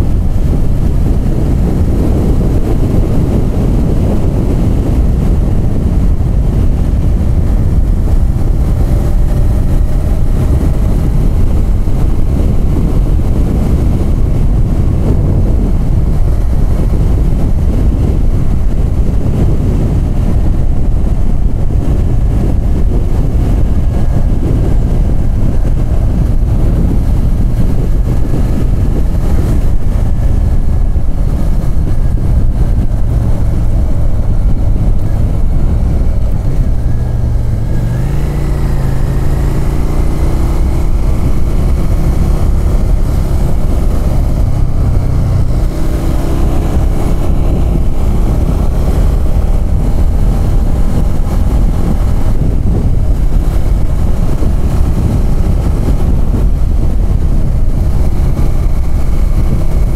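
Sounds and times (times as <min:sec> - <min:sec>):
motorcycle engine running: 0:00.0 - 0:59.9
wind rushing on microphone: 0:00.0 - 0:59.9.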